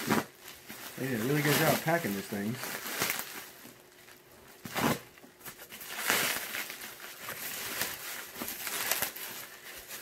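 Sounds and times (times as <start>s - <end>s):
plastic and bubble wrap crinkling: 0.0s - 10.0s.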